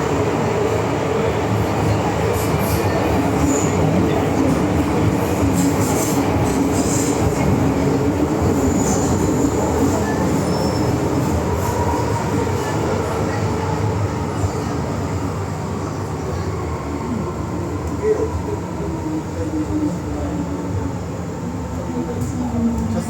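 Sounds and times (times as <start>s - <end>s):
rumble of wheels on rail: 0.0s - 23.0s.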